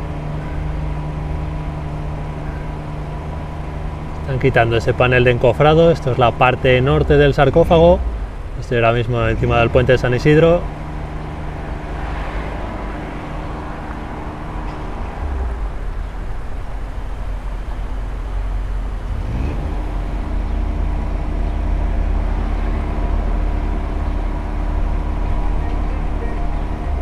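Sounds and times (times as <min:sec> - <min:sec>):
low traffic rumble: 0:00.0 - 0:27.0
vehicle engine humming: 0:00.0 - 0:27.0.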